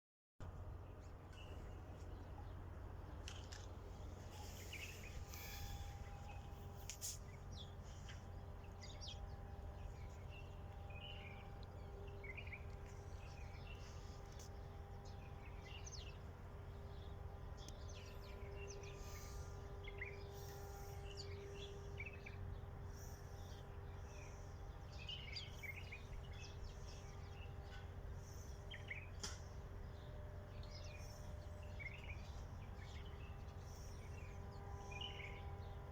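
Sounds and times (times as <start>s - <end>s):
low hum: 0.4s - 35.9s
faint steady tones: 0.5s - 35.9s
small birds chirping: 0.9s - 35.8s.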